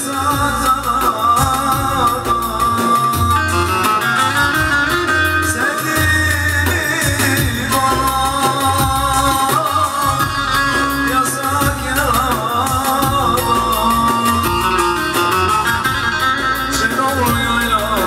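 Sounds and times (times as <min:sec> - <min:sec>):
electronic keyboard: 0:00.0 - 0:18.0
man singing: 0:00.0 - 0:18.0.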